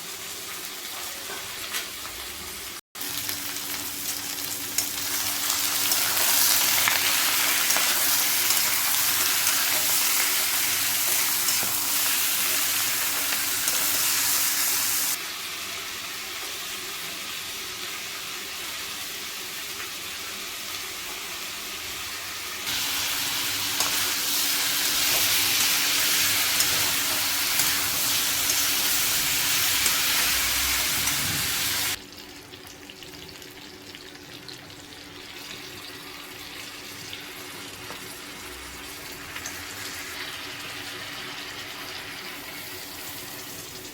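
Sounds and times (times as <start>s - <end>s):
chicken sizzling in a pan: 0.0s - 43.9s.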